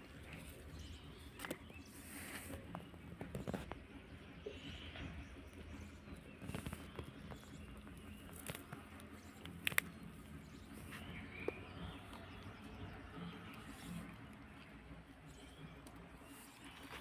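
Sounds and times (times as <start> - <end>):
rabbits scuffling and clicking: 0.0 - 4.1, 4.9 - 17.0.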